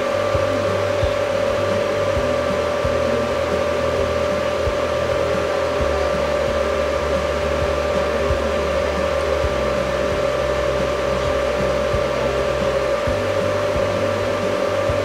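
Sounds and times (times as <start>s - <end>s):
fan motor whirring hum: 0.0s - 15.0s
steady tone: 0.0s - 15.0s.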